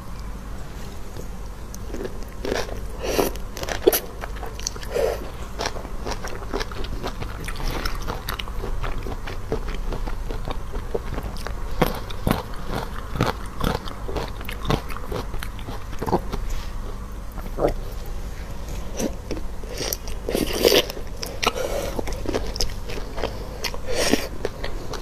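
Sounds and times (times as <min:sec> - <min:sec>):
shells crunching while chewing: 0:01.2 - 0:16.6, 0:19.0 - 0:25.0.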